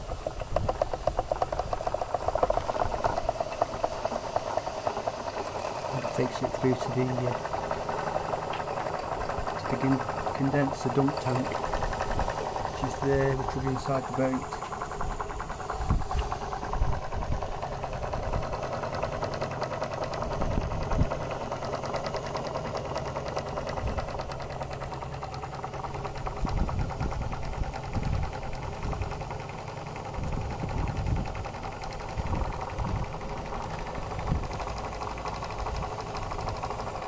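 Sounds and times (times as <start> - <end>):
model steam engine running fast: 0.0 - 37.0.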